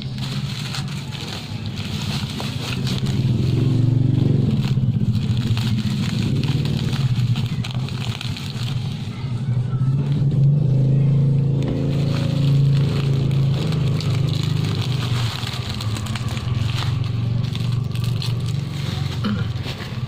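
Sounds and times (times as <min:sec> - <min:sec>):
plastic packaging crinkling: 0:00.0 - 0:10.0, 0:11.5 - 0:20.0
low motor hum: 0:00.0 - 0:20.0.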